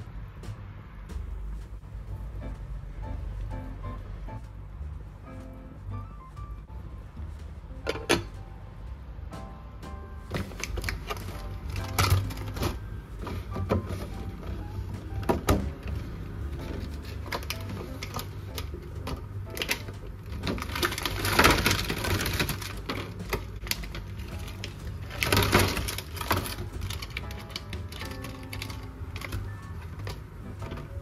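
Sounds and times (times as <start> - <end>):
faint background music: 0.0 - 31.0.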